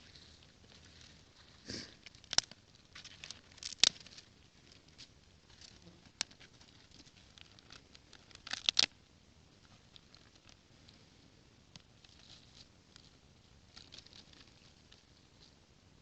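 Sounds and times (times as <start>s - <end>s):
twigs crackling and snapping: 0.1s - 9.0s, 9.6s - 11.0s, 11.6s - 15.6s.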